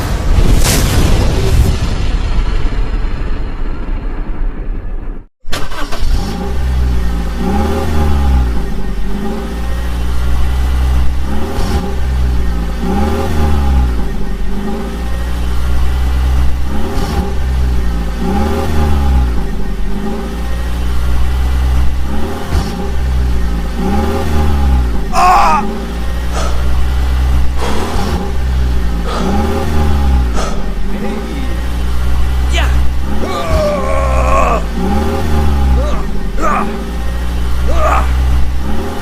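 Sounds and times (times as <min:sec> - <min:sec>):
engine revving: 0:05.5 - 0:39.0.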